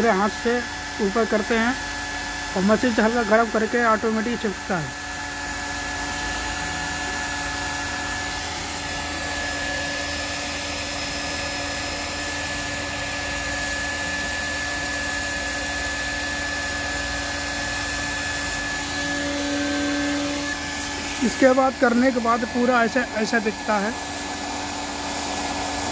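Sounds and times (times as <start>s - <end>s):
hot-air welding gun blower hiss: 0.0s - 25.9s.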